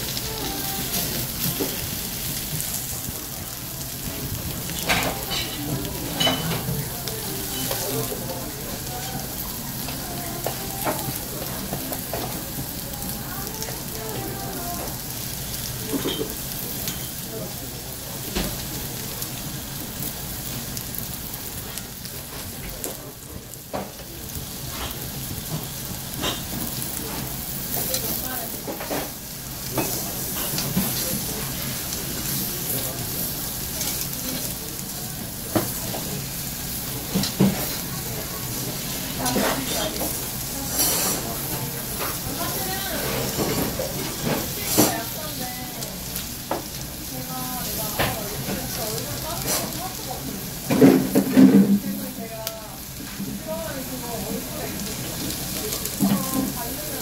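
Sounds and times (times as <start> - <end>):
meat sizzling on a grill: 0.0 - 57.0.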